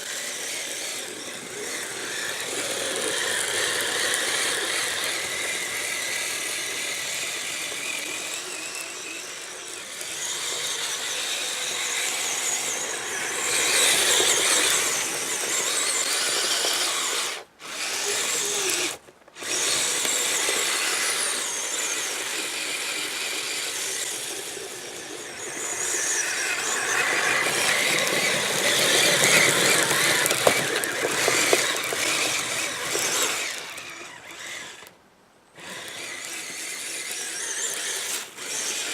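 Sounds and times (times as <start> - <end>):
electric motor and track whine: 0.0 - 38.9.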